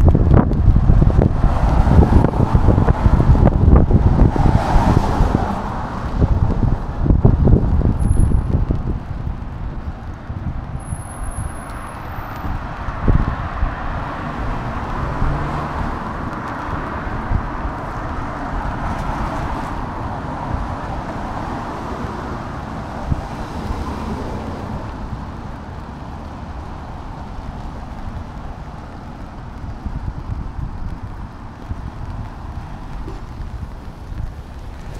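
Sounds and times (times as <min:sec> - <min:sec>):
tyres hissing on wet street: 0:00.0 - 0:34.9
wind buffeting microphone: 0:00.0 - 0:34.9.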